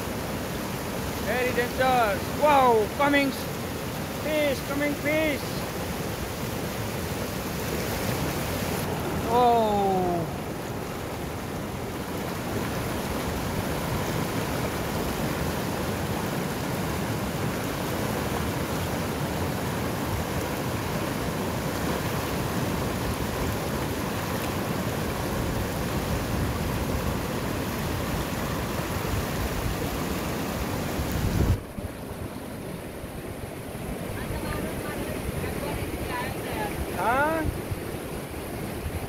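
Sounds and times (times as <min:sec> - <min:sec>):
river rapids rushing: 0:00.0 - 0:39.0.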